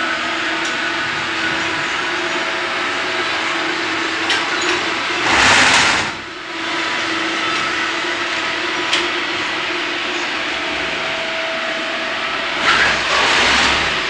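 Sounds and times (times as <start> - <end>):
mechanical hum with low drone: 0.0 - 14.0.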